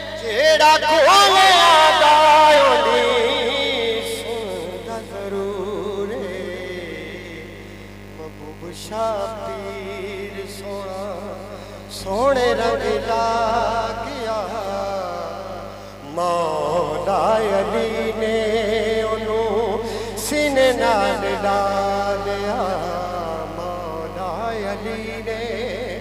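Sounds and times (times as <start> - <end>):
man singing into a microphone: 0.0 - 26.0
steady low hum: 0.0 - 26.0.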